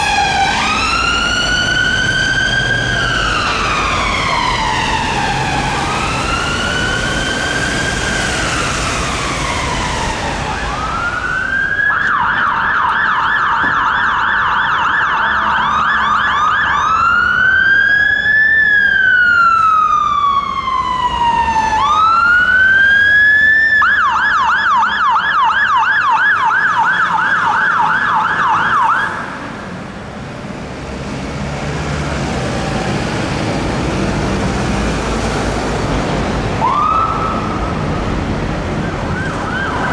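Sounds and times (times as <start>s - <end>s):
ambulance siren wailing: 0.0s - 29.9s, 32.5s - 39.9s
fire engine siren yelp and wail: 0.0s - 39.9s
traffic noise: 0.0s - 39.9s.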